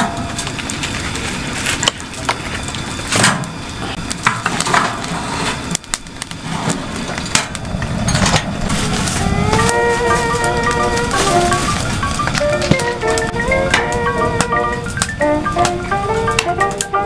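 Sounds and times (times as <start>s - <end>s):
steady hiss: 0.0s - 17.0s
wood cracking and snapping: 0.0s - 17.0s.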